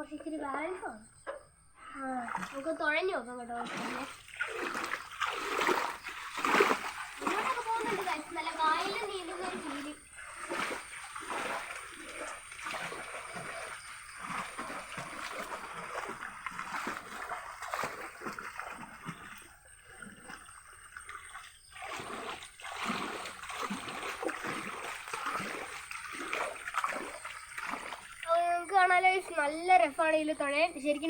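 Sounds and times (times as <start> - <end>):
water splashing and sloshing: 0.0 - 31.0.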